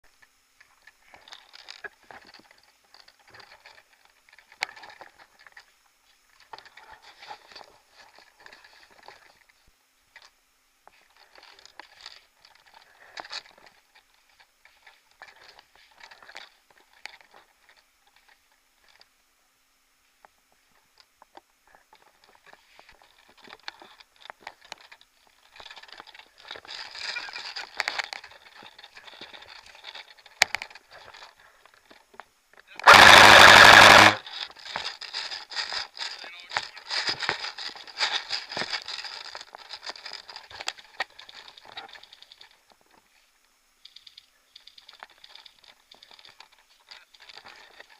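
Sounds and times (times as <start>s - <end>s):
soft crunching and rustling: 0.0s - 47.9s.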